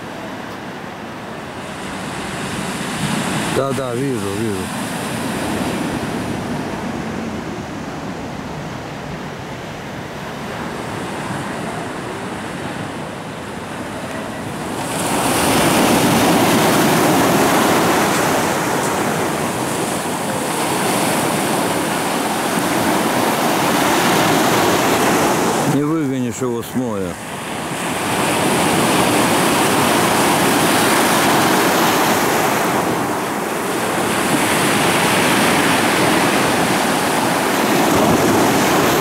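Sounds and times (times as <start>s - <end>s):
surf on pebble beach: 0.0s - 39.0s.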